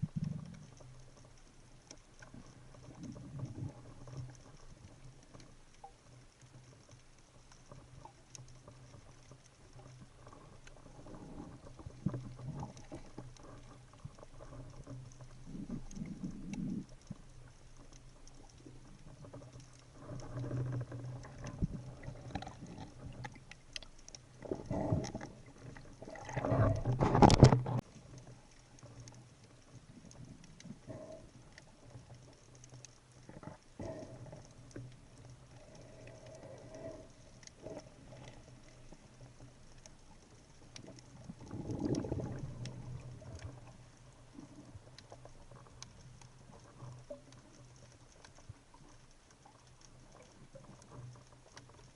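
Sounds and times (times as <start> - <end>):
low underwater hum: 0.0 - 51.9
underwater crackling and clicking: 0.0 - 51.9.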